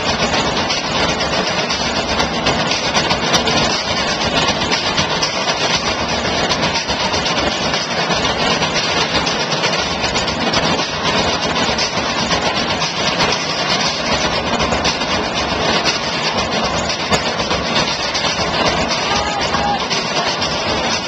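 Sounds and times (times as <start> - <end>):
barrel drums pounding: 0.0 - 21.0.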